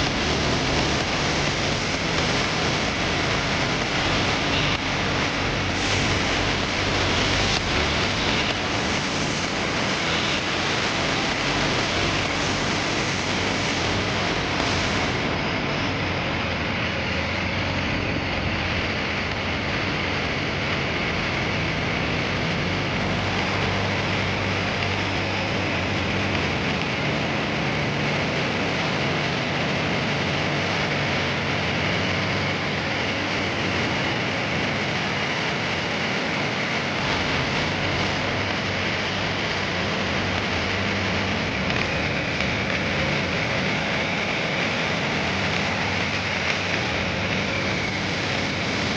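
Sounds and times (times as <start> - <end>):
boat engine droning: 0.0 - 48.9
water wash: 0.0 - 48.9.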